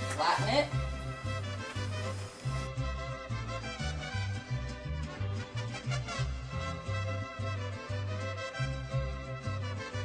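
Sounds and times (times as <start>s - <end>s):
salsa-like background music: 0.0s - 10.0s.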